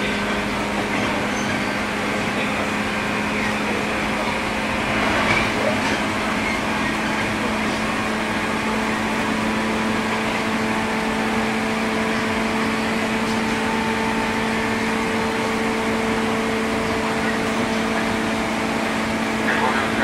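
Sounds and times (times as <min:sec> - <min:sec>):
electric train carriage hum: 0:00.0 - 0:20.0.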